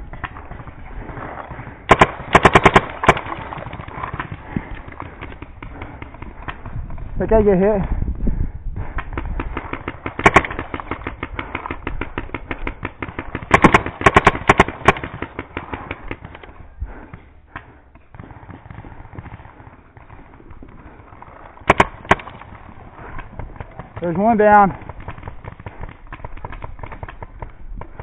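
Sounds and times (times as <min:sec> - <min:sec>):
paintball markers firing: 0:00.0 - 0:07.6, 0:08.9 - 0:28.0
sharp loud cracks: 0:01.6 - 0:06.7, 0:08.9 - 0:16.5, 0:17.1 - 0:28.0.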